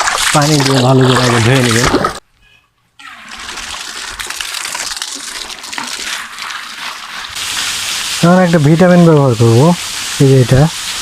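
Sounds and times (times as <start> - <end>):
water splashing and running: 0.0 - 2.2, 3.0 - 11.0.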